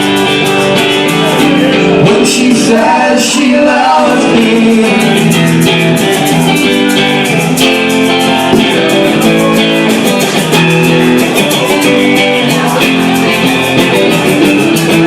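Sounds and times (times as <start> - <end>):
bass guitar: 0.0 - 15.0
drums keeping steady beat: 0.0 - 15.0
strummed guitars: 0.0 - 15.0.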